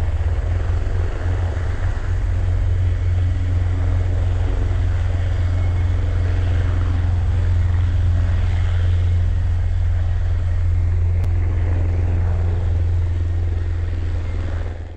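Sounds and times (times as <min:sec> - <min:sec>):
helicopter rotor beat: 0:00.0 - 0:14.9
turbine noise: 0:00.0 - 0:14.9.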